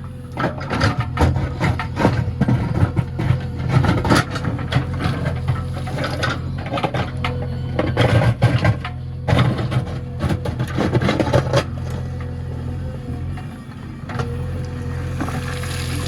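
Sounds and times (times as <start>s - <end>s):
diesel engine running: 0.0s - 16.0s
clattering and rushing of soil: 0.2s - 16.0s.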